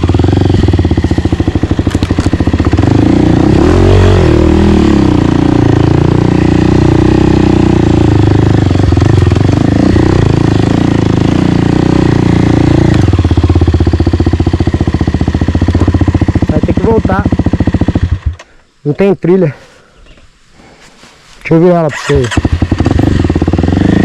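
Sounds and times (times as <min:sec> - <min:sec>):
dirt bike engine: 0:00.0 - 0:24.0.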